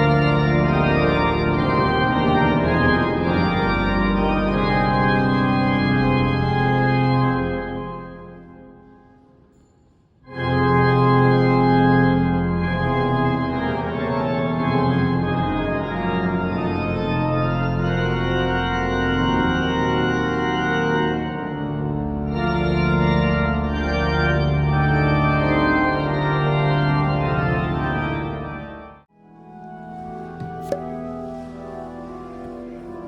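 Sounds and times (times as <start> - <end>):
organ playing slow chords: 0.0 - 9.2, 10.3 - 29.0.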